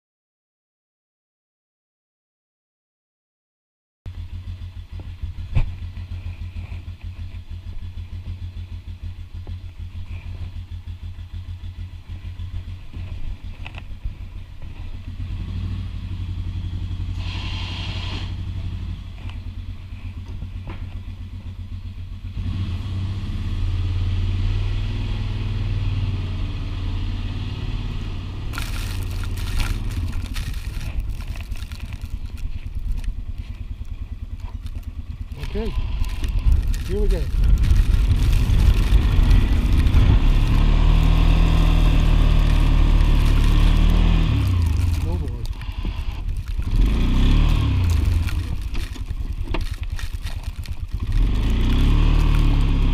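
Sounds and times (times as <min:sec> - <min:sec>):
atv engine running: 0:04.1 - 0:52.9.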